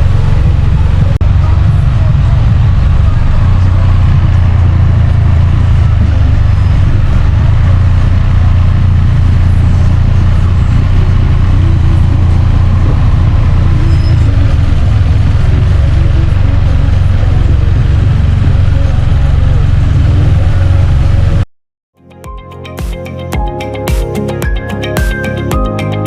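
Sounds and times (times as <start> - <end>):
motorcycle engine running: 0.0 - 21.5, 22.3 - 26.0.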